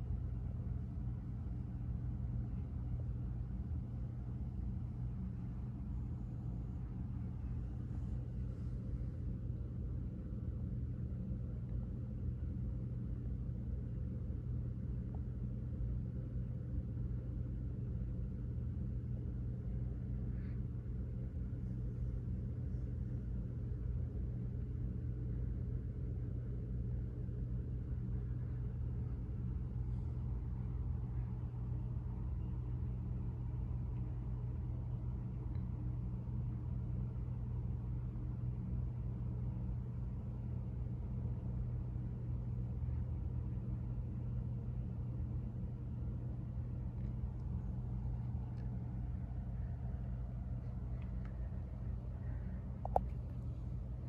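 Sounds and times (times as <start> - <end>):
faint rumble: 0.0 - 54.0
low-pitched hum: 0.0 - 54.0.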